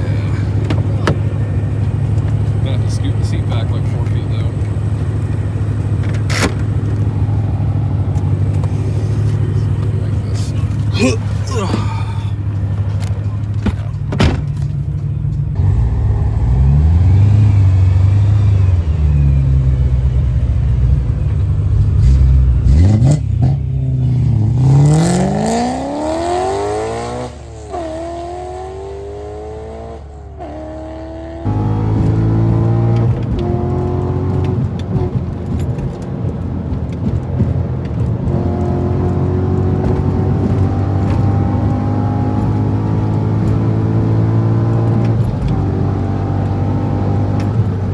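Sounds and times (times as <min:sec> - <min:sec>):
car engine accelerating through gears: 0:00.0 - 0:47.9.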